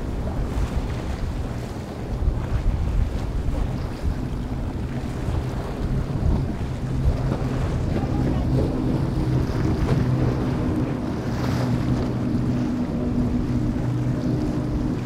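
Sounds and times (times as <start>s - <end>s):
outboard engines droning: 0.0s - 15.0s
water rushing against hull: 0.0s - 15.0s
wind buffeting microphone: 0.0s - 15.0s.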